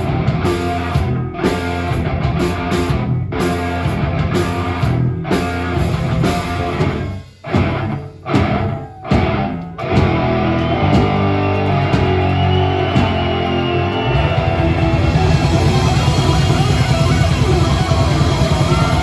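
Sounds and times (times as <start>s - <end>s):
heavy rock band playing: 0.0s - 19.0s.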